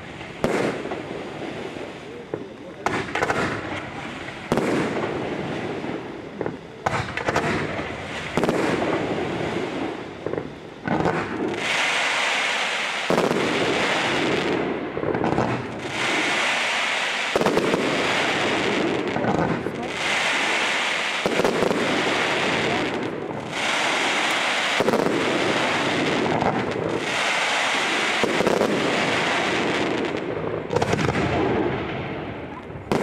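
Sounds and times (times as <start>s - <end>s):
hissing crackle of fireworks: 0.0s - 33.0s
firework shells bursting: 2.3s - 31.7s.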